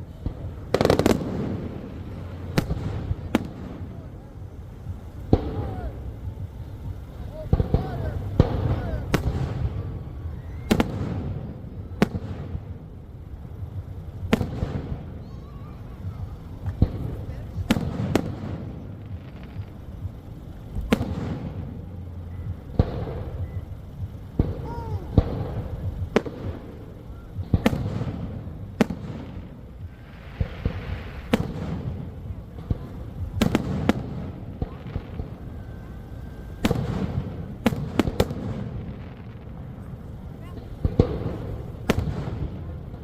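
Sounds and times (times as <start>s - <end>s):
fireworks bursting with bangs: 0.0s - 43.0s
low rumble: 0.0s - 43.0s.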